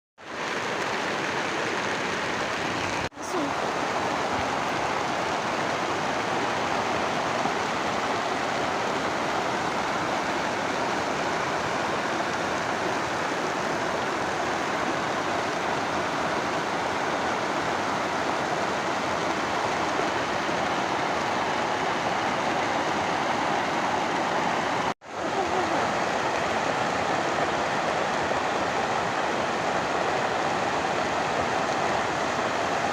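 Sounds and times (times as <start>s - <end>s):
floodwater rushing: 0.2s - 32.9s.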